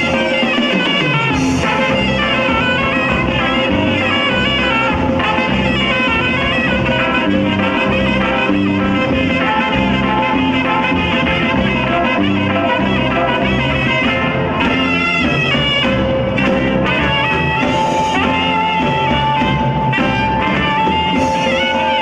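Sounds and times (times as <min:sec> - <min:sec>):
live dance band playing: 0:00.0 - 0:22.0
saxophone section melody: 0:00.0 - 0:22.0.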